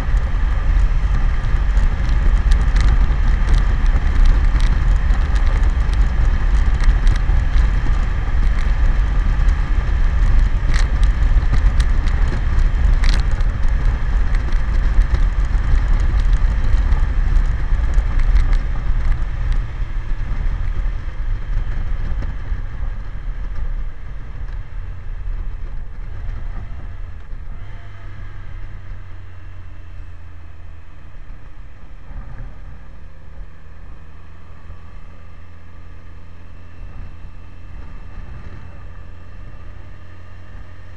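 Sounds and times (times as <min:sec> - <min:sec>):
motorcycle engine running: 0:00.0 - 0:40.9
wind rush and road noise: 0:00.0 - 0:40.9.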